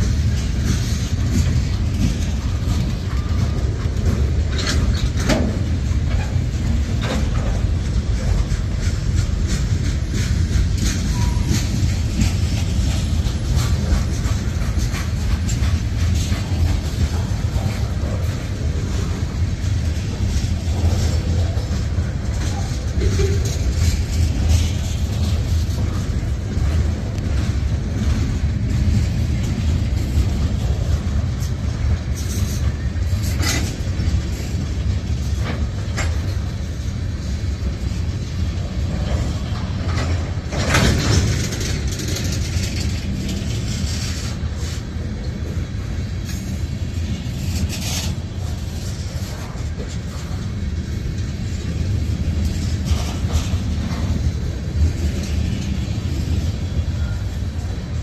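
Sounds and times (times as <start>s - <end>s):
freight cars rumbling on rails: 0.0s - 58.0s.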